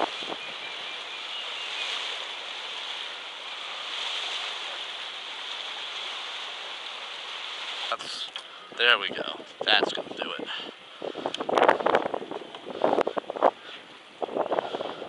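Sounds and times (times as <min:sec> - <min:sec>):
water rushing: 0:00.0 - 0:15.0
wind: 0:00.0 - 0:15.0.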